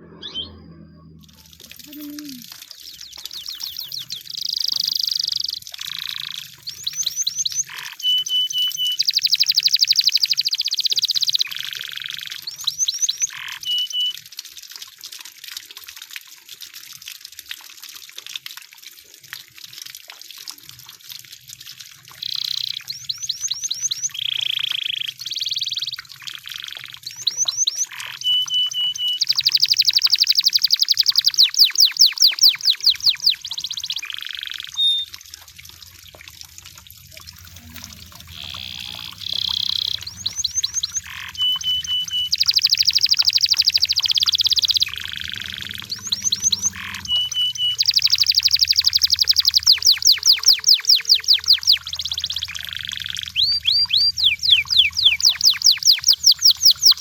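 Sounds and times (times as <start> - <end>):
canary singing trills: 0.0 - 14.2, 22.2 - 35.1, 37.2 - 57.0.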